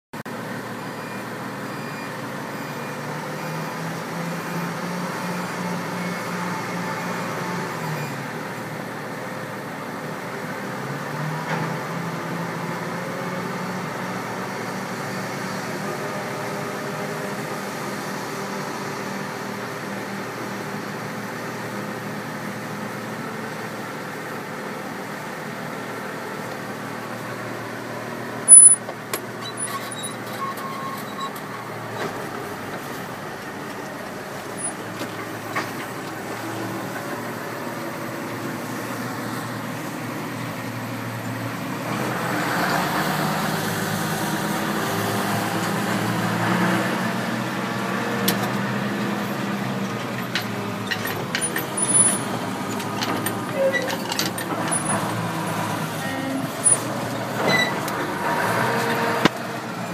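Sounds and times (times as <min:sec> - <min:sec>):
tractor diesel engine: 0:00.2 - 0:59.9
wheel loader working: 0:00.2 - 0:59.9.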